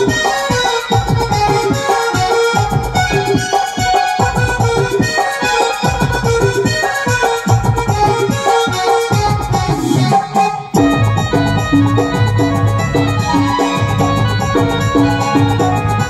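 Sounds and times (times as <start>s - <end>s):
beat on electronic drum pads: 0.0s - 16.0s
sustained melody line: 0.0s - 16.0s.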